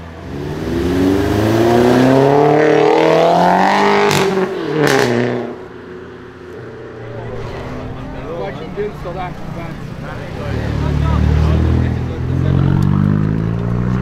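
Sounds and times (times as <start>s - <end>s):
car accelerating hard: 0.1s - 5.6s, 6.6s - 14.0s.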